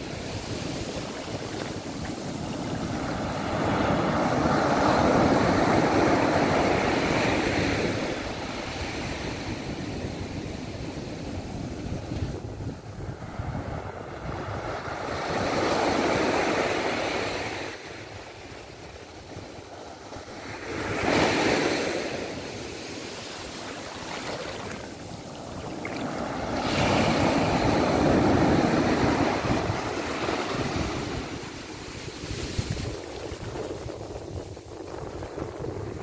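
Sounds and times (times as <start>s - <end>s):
small waves washing up beach: 0.0s - 36.0s.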